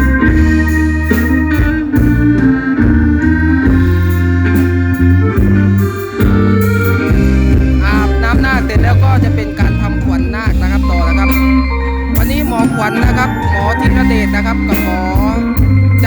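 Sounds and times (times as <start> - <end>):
deep bass line: 0.0 - 16.0
electronic keyboard organ chords: 0.0 - 16.0
steady drum beat: 0.0 - 16.0
wavering melody line: 0.0 - 16.0.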